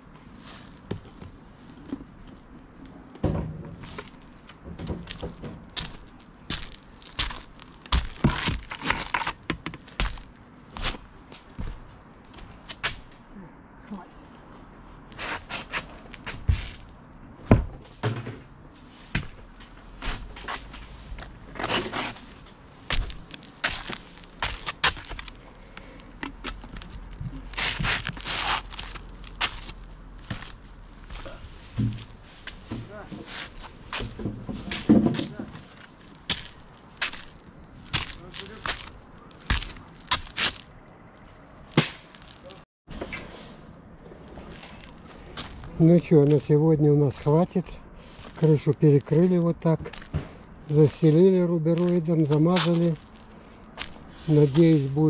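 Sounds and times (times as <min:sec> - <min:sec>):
footsteps crunching on roofing felt: 0:00.0 - 0:13.1, 0:15.0 - 0:42.6, 0:44.3 - 0:55.0
gritty scrapes: 0:03.8 - 0:11.0, 0:15.1 - 0:17.0, 0:18.8 - 0:46.3, 0:47.0 - 0:55.0.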